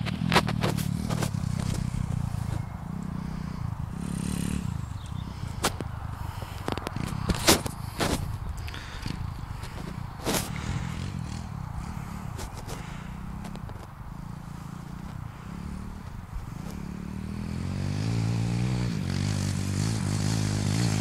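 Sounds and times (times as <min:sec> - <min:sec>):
motorbike engine running: 0:00.0 - 0:21.0.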